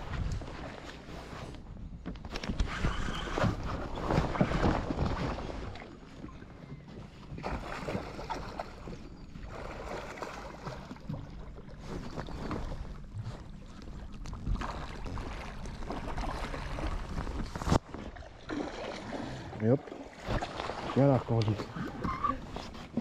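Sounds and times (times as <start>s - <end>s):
water around a boat: 0.0s - 23.0s
wind: 0.0s - 23.0s.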